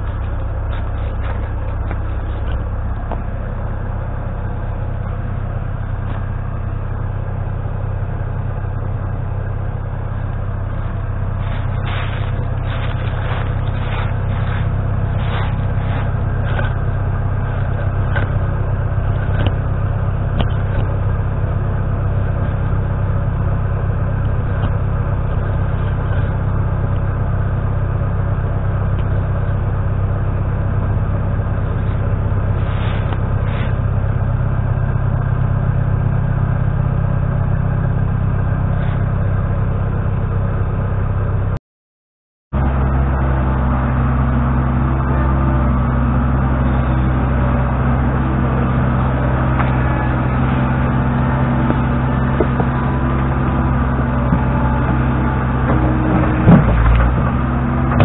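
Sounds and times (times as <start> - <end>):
diesel engine running: 0.0 - 41.6, 42.5 - 58.0.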